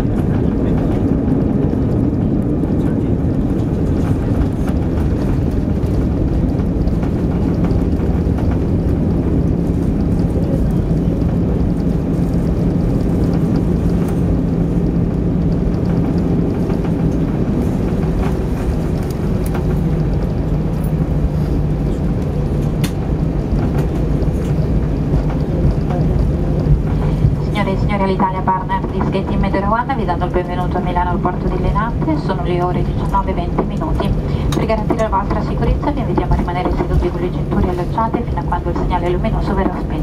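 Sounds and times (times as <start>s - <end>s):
low rumble of engines and wheels: 0.0s - 40.0s
steady cabin hum: 0.0s - 40.0s.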